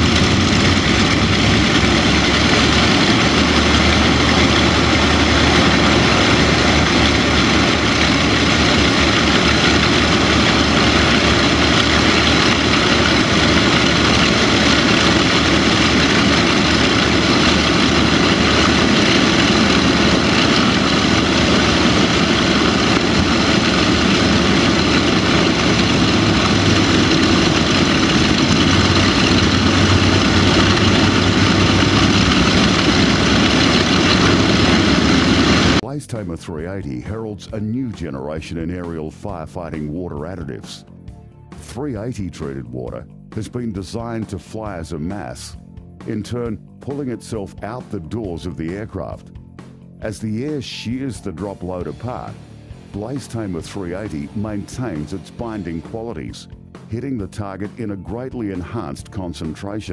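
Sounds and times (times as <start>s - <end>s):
piston aircraft engines running: 0.0s - 59.9s.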